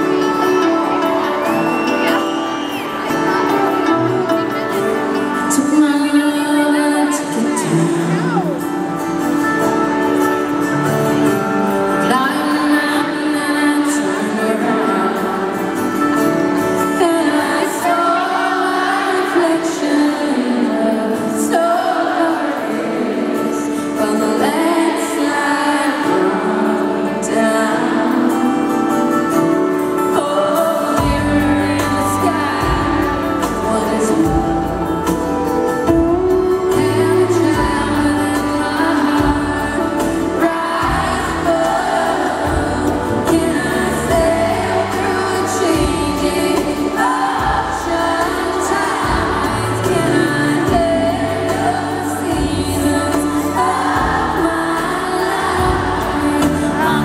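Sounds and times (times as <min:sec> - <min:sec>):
live country music: 0:00.0 - 0:57.0
woman singing lead vocal: 0:00.0 - 0:57.0.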